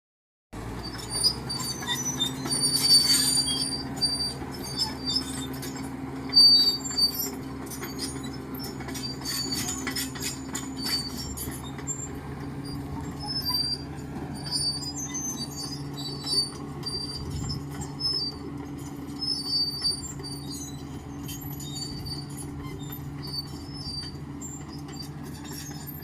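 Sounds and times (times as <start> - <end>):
diesel engine running: 0.6 - 26.0
metallic squeaks and clanks: 0.7 - 26.0.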